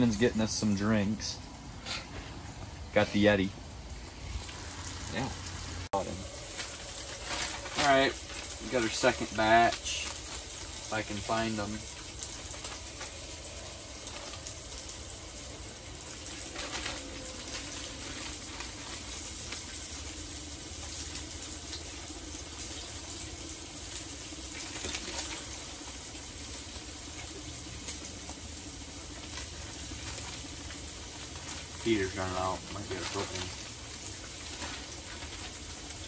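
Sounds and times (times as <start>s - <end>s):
fish frying in hot oil: 0.0s - 36.0s
plastic bag rustling: 5.9s - 36.0s.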